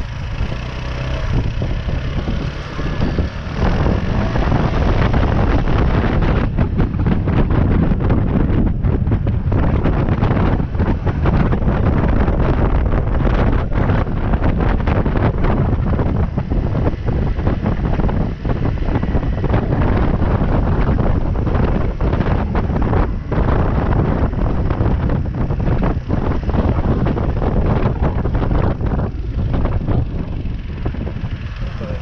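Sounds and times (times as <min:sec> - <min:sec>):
motorbike running: 0:00.0 - 0:32.0
road noise: 0:00.0 - 0:32.0
wind buffeting microphone: 0:00.0 - 0:32.0.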